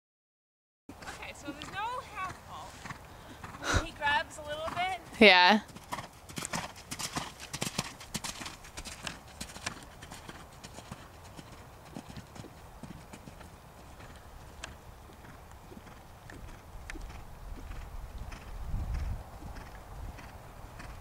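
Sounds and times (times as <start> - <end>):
horse hoofbeats: 0.9 - 21.0.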